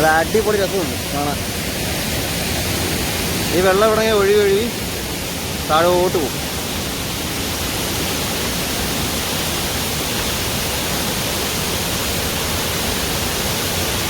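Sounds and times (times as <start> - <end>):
waterfall pouring over rock: 0.0 - 14.0.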